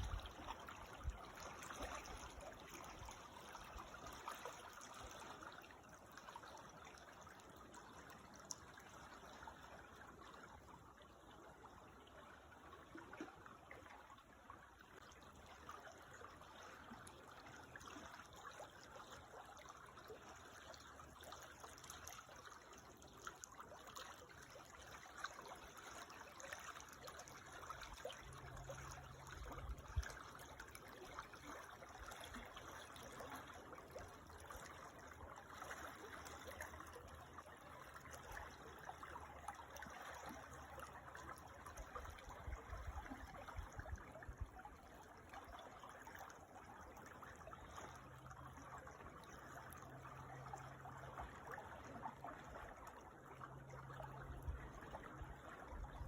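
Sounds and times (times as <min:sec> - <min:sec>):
creek trickling: 0:00.0 - 0:56.0.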